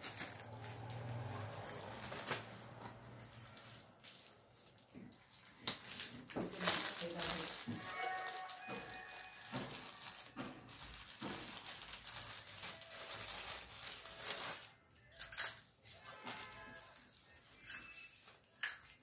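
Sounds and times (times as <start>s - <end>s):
plastic packet crinkling: 3.5s - 19.0s.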